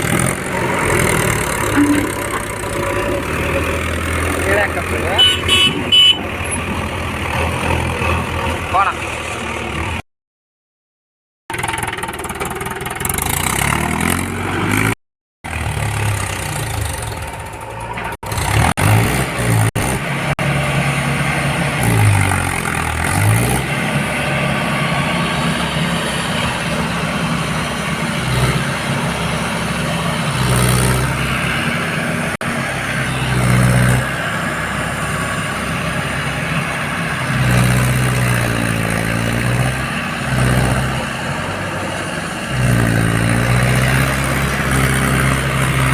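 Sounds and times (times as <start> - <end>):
tractor engine revving: 0.0 - 10.0, 11.5 - 45.9.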